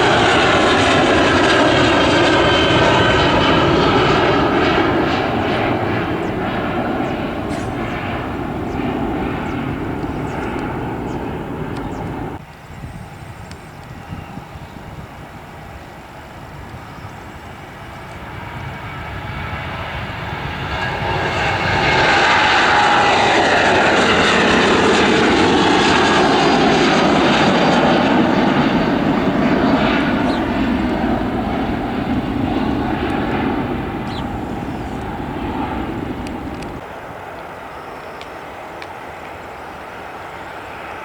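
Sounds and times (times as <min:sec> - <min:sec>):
jet airliner passing: 0:00.0 - 0:41.0.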